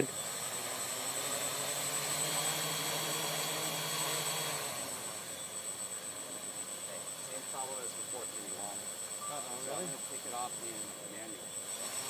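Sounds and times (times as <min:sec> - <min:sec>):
helicopter motors humming: 0:00.0 - 0:12.0.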